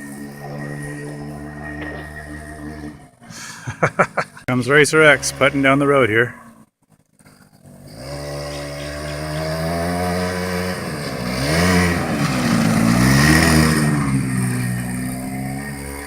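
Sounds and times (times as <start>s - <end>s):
small motorcycle engine revving: 0.0s - 16.0s.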